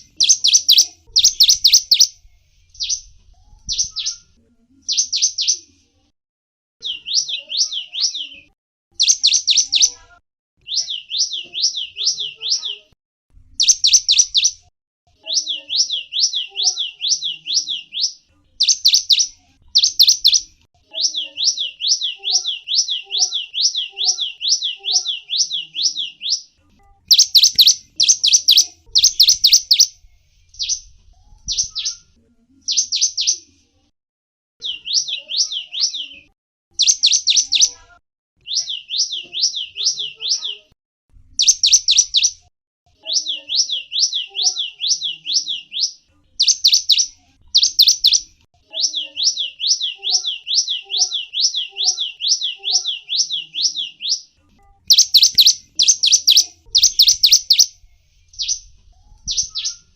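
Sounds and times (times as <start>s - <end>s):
songbird chirping: 0.0s - 5.8s, 6.8s - 33.6s, 34.6s - 40.8s, 41.4s - 59.9s.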